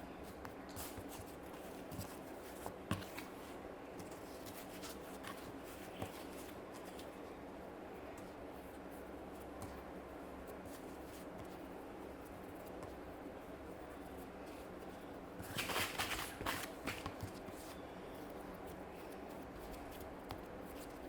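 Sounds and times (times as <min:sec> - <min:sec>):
steady background hum: 0:00.0 - 0:21.0
hands rustling and tapping: 0:00.1 - 0:07.2, 0:08.0 - 0:13.2, 0:13.8 - 0:21.0.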